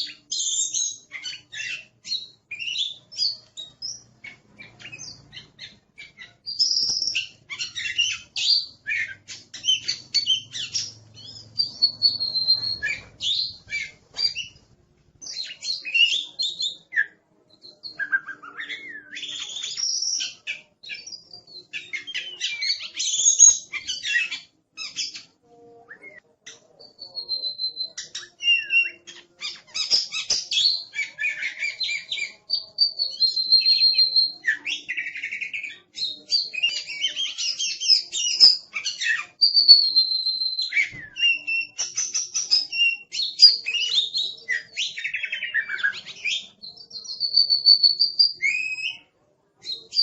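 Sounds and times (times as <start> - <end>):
bird singing: 0.0 - 14.6, 15.2 - 50.0.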